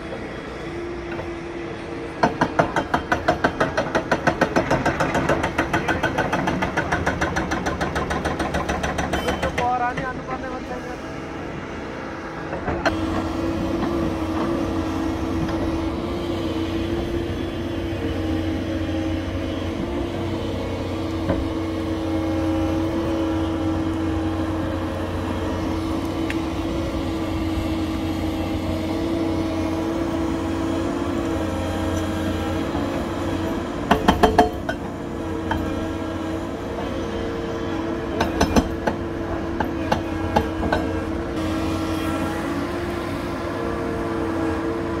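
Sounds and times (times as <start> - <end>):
excavator machine drone: 0.0 - 45.0.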